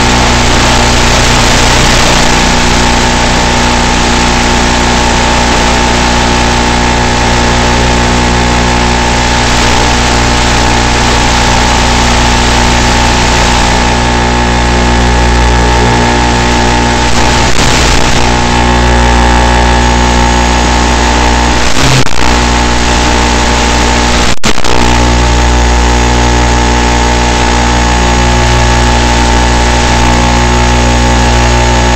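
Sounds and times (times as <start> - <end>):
electric motor and propeller drone: 0.0 - 31.9.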